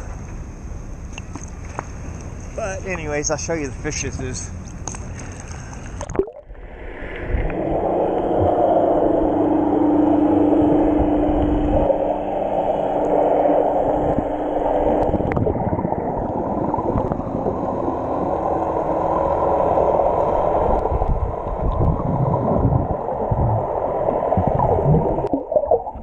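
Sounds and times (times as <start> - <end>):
steady low hum: 0.0 - 26.0
underwater rushing and gurgling: 0.5 - 26.0.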